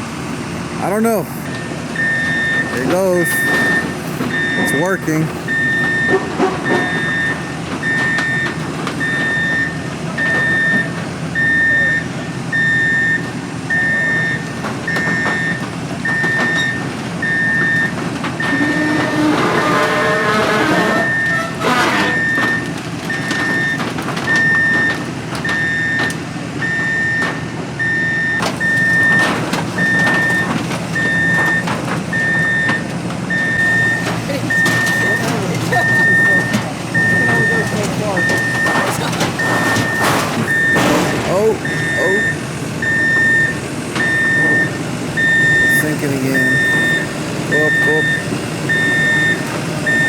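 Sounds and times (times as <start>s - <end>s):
forklift engines running: 0.0s - 50.0s
reversing alarm beeping: 0.8s - 50.0s.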